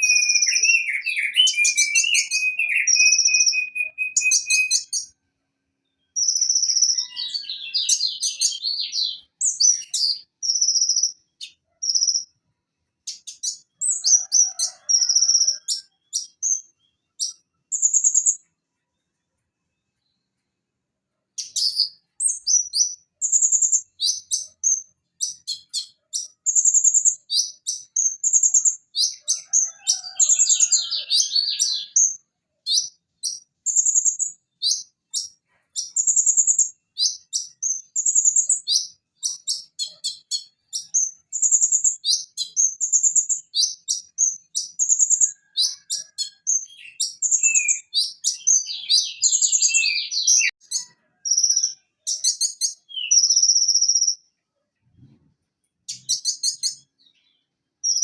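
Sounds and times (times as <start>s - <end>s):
sunbird singing chirps and trills: 0.0s - 5.2s, 5.8s - 12.4s, 13.0s - 18.5s, 21.4s - 54.3s, 55.8s - 58.0s.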